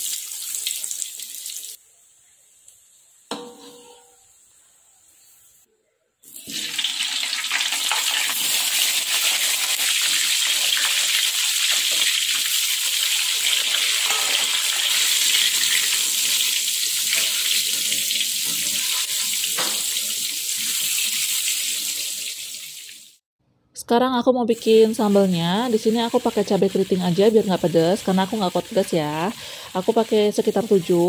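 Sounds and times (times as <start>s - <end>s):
vegetables sizzling in hot oil: 0.0s - 1.8s, 6.4s - 23.2s, 24.6s - 31.0s.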